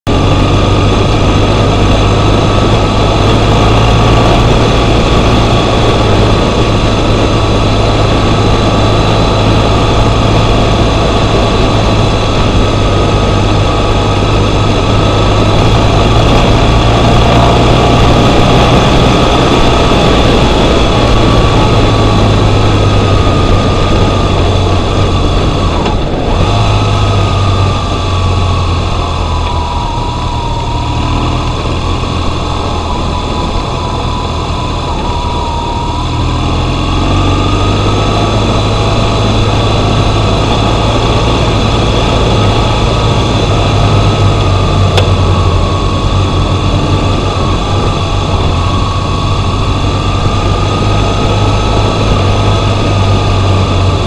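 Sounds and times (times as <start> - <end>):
motorcycle engine running: 0.0 - 54.0
wind rush: 0.0 - 54.0
road noise on gravel: 0.1 - 54.0.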